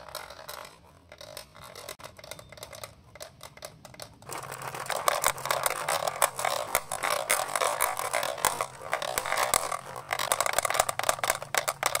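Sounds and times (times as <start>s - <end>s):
marbles rolling down plastic track: 0.0s - 12.0s.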